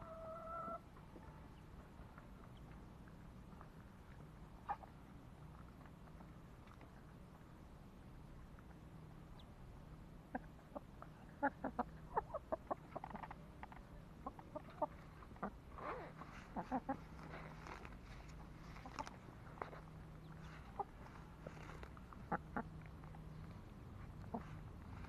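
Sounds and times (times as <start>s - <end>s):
chickens clucking: 0.0s - 6.6s, 10.2s - 25.0s.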